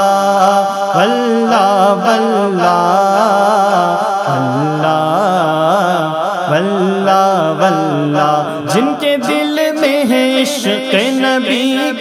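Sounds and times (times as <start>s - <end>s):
man singing: 0.0s - 12.0s.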